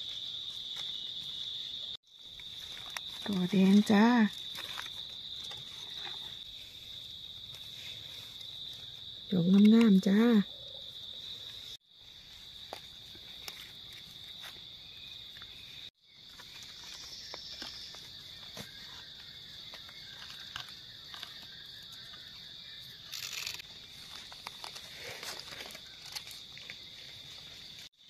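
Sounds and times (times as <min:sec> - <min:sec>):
insects calling: 0:00.0 - 0:28.0.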